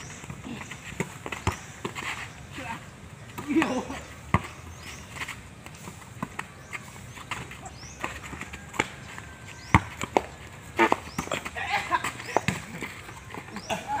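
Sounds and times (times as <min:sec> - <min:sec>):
basketball bouncing on dirt: 0:00.1 - 0:02.3, 0:03.3 - 0:13.7.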